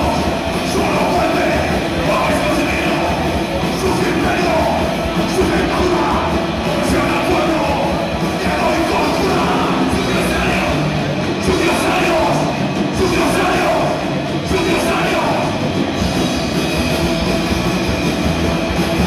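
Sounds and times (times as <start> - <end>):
live punk band playing: 0.0 - 19.0.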